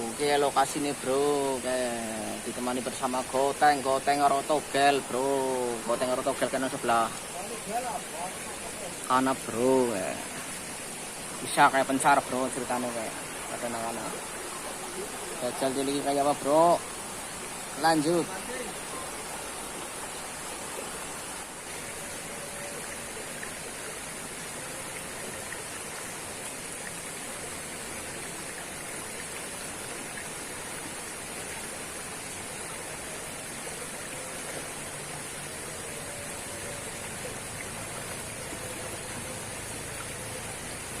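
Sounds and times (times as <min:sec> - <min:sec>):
waterfall and rushing stream: 0:00.0 - 0:41.0.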